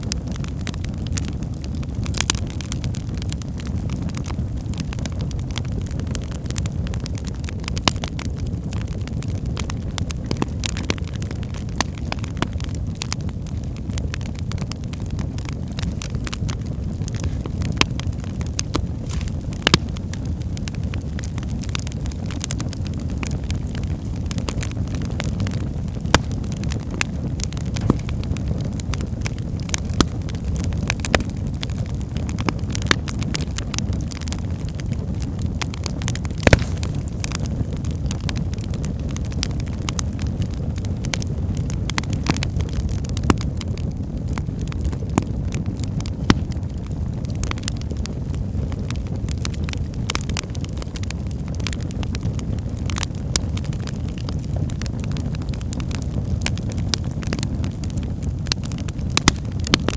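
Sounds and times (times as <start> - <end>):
burning logs crackling and popping: 0.0 - 59.9
fire flames rumbling: 0.0 - 59.9.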